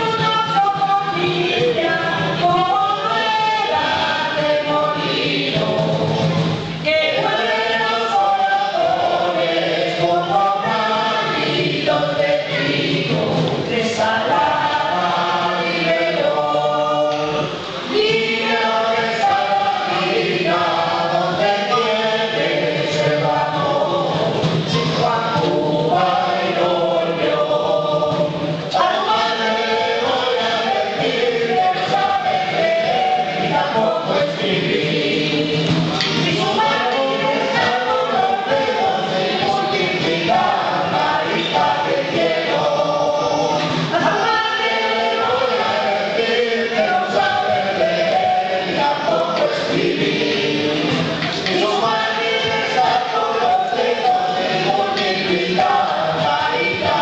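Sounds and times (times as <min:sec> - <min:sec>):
group singing in chorus: 0:00.0 - 0:57.0.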